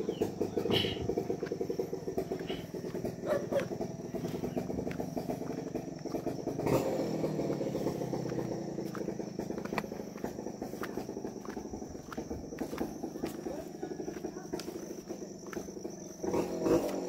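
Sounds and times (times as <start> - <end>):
footsteps scuffing on path: 0.0 - 17.0
high insect whine: 0.0 - 17.0
low buzzing drone: 0.0 - 17.0.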